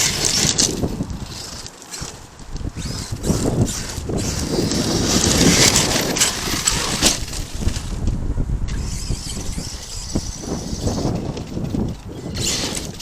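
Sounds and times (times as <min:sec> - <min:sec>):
electric motor whine: 0:00.0 - 0:13.0
gravel crunching under tyres: 0:00.0 - 0:13.0.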